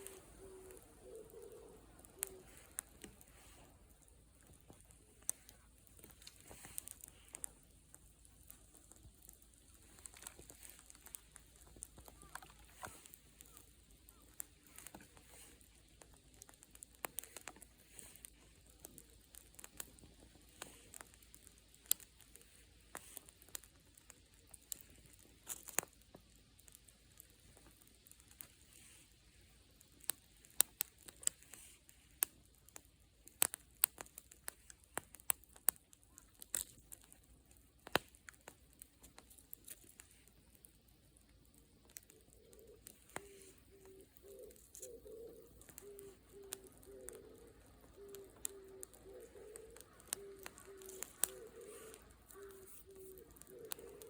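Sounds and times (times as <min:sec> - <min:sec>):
faint steady hiss: 0:00.0 - 0:54.0
wood fire crackling: 0:00.0 - 0:54.0.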